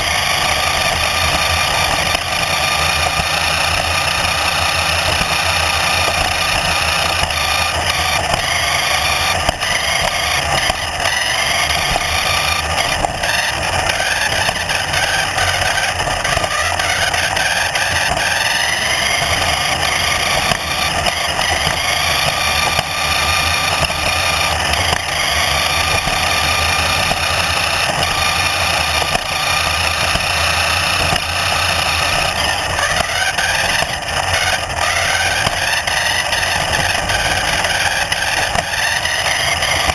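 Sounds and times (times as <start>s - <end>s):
vehicle motor whining: 0.0s - 39.9s.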